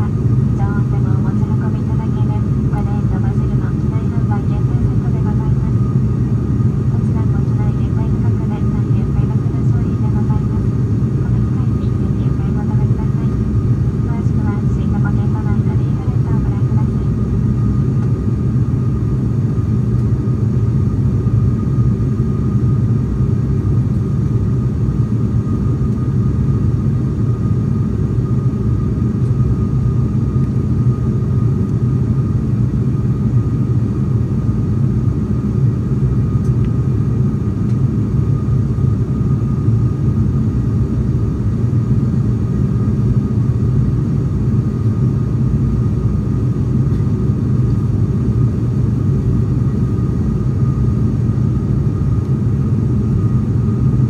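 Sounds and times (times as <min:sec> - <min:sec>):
thin steady whine: 0:00.0 - 0:54.0
turboprop engines droning in cabin: 0:00.0 - 0:54.0.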